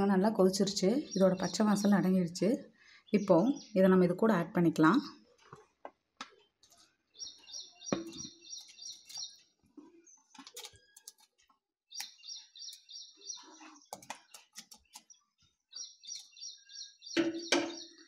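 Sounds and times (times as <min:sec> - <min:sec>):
bird chirping: 0:00.2 - 0:05.2, 0:06.3 - 0:18.0.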